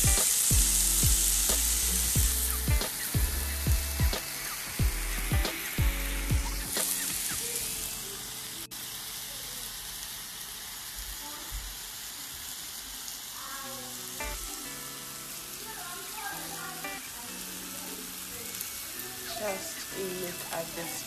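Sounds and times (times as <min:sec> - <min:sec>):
chicken sizzling on grill: 0:00.0 - 0:21.0.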